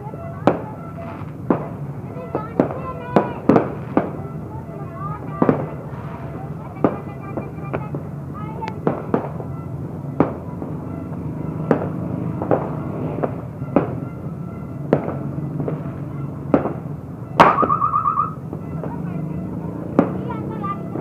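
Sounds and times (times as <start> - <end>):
firework crackles: 0.0 - 14.0, 14.8 - 19.1, 19.9 - 21.0
fireworks bangs: 0.0 - 21.0.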